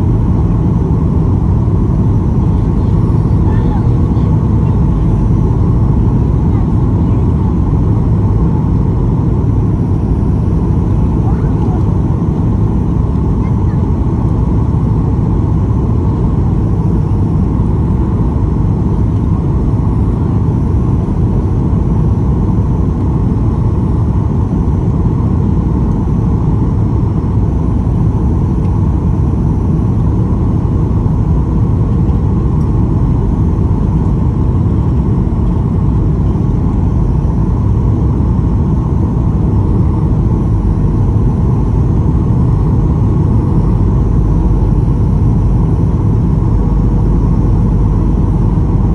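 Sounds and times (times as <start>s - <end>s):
airplane cabin engine roar: 0.0s - 48.9s.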